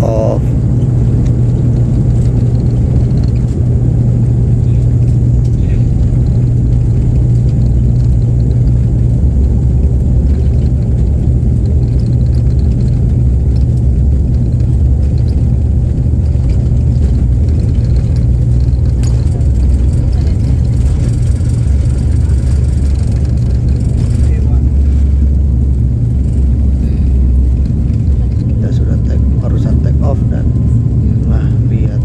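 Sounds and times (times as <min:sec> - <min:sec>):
propeller engine drone: 0:00.0 - 0:32.0.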